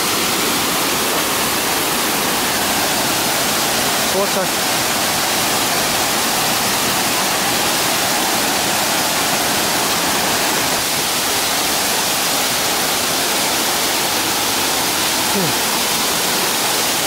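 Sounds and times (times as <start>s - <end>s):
waterfall splashing into pool: 0.0s - 17.0s.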